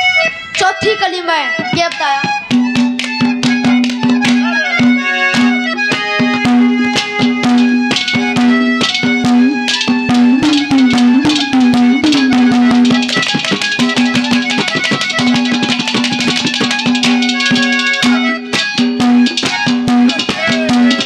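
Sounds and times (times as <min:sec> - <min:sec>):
held melody note bending: 0:01.5 - 0:21.0
hand drum strokes: 0:02.5 - 0:21.0.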